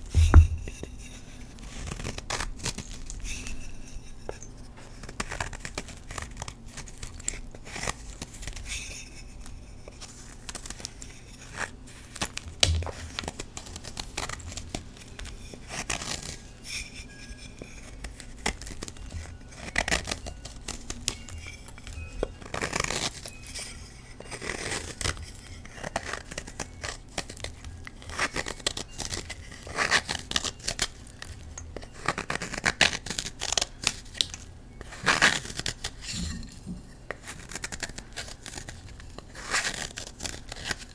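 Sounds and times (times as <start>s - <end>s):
knife scraping chalk: 0.1s - 34.0s, 34.8s - 40.9s.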